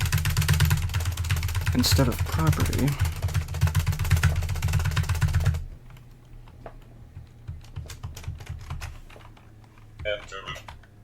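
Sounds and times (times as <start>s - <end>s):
typing on computer keyboard: 0.0s - 11.0s.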